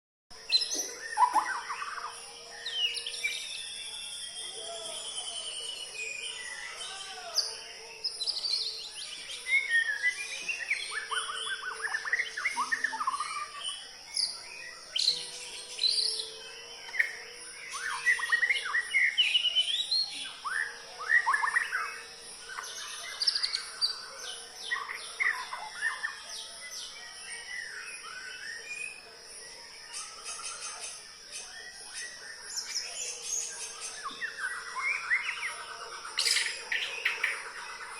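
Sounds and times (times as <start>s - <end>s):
bird song with whistles and trills: 0.3s - 37.9s.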